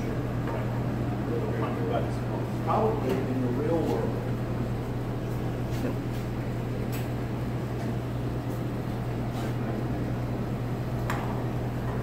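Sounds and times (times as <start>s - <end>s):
ventilation drone: 0.0s - 12.0s.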